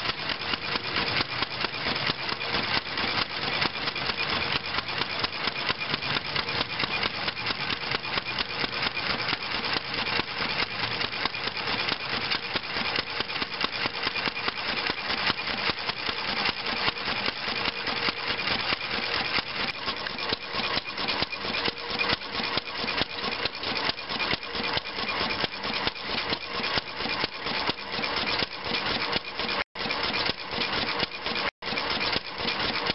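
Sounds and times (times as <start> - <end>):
engine putt-putt running: 0.0 - 32.9.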